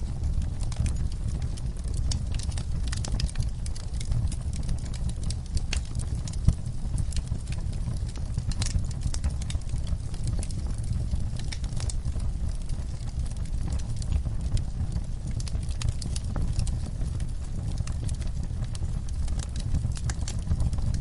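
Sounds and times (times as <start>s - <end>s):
fire crackling and popping: 0.0s - 21.0s
fire rumbling: 0.0s - 21.0s.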